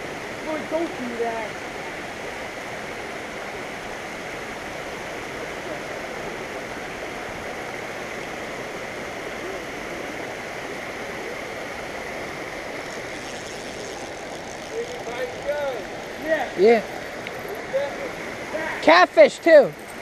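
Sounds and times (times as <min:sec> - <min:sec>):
water rushing over a spillway: 0:00.0 - 0:20.0.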